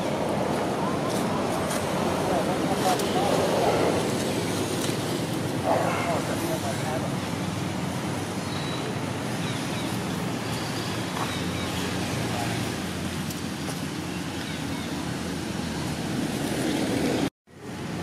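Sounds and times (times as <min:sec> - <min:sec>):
outdoor background rumble and hiss: 0:00.0 - 0:18.0.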